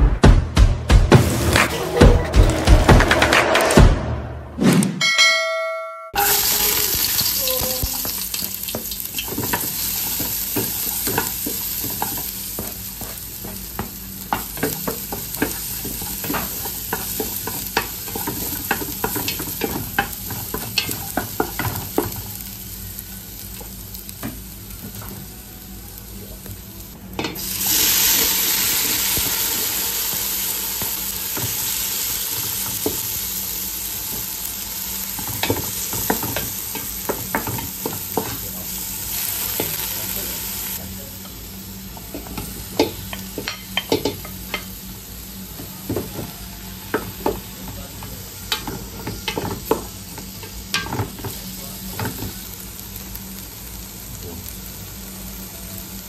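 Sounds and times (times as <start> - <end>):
garlic sizzling in hot oil: 6.2 - 56.0.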